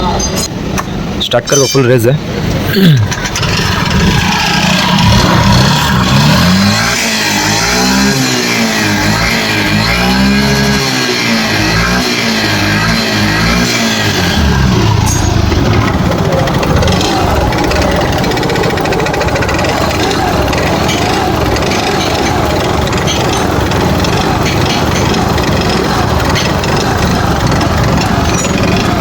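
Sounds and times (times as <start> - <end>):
scooter engine revving: 2.4 - 29.0.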